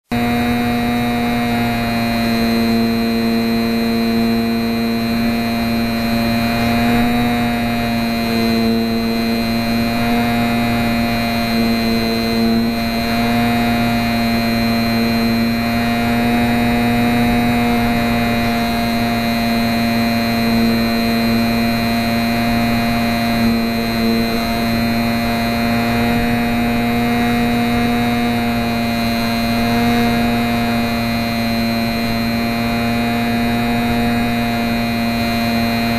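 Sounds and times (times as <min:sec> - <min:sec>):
model plane motor buzzing: 0:00.0 - 0:35.9.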